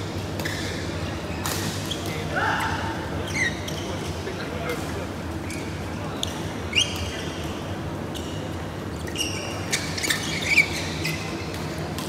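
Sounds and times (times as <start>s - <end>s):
echoing sports hall hum: 0.0s - 12.0s
shoes squeaking on court: 0.2s - 2.3s, 3.2s - 4.3s, 5.4s - 12.0s.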